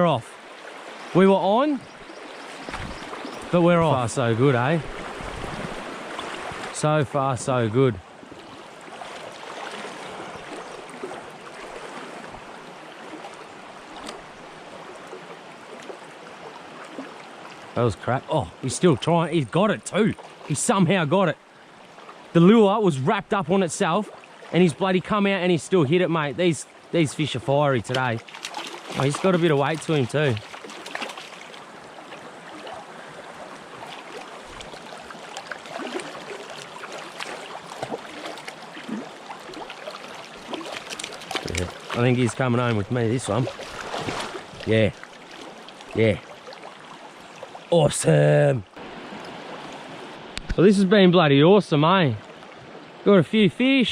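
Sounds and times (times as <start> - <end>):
river water flowing over stones: 0.0 - 50.7.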